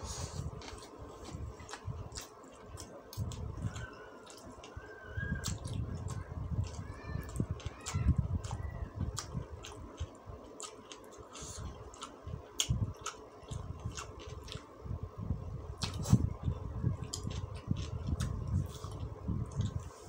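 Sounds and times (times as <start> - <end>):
faint steady hum: 0.0 - 20.0
chewing noodles: 1.6 - 14.7, 15.8 - 19.9.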